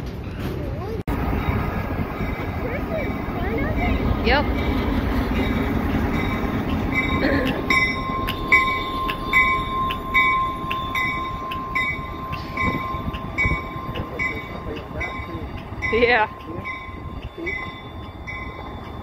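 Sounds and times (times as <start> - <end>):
diesel locomotives rumbling: 0.0 - 19.0
locomotive bell ringing: 1.1 - 19.0.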